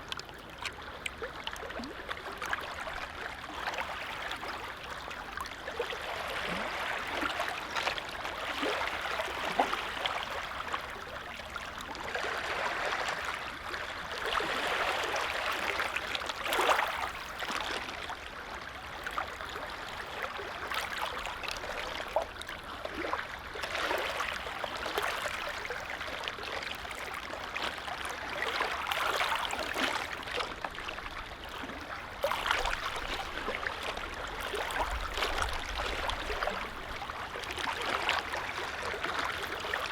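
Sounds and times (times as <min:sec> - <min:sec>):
lake waves lapping on shore: 0:00.0 - 0:39.9.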